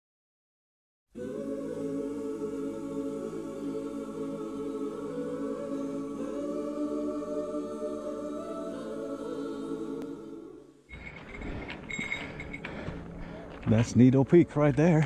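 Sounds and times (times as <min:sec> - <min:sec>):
slow music of held chords: 0:01.1 - 0:13.3.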